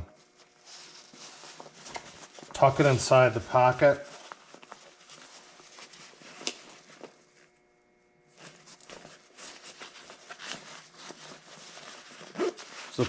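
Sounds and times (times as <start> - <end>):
glove rustling: 0.2 - 7.6, 8.2 - 13.0.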